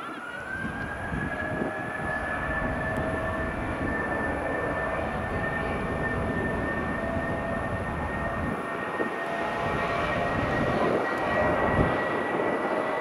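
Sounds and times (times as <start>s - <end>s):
jet engines whining: 0.0s - 13.0s.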